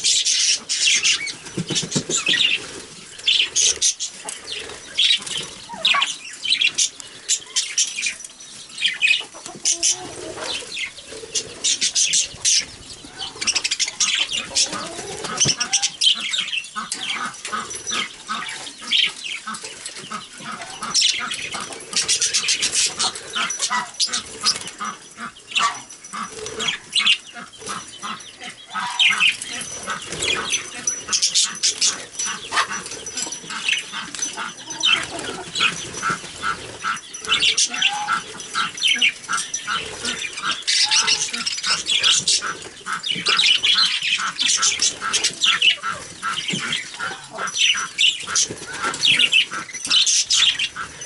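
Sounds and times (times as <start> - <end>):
budgerigars chattering and chirping: 0.0 - 51.0.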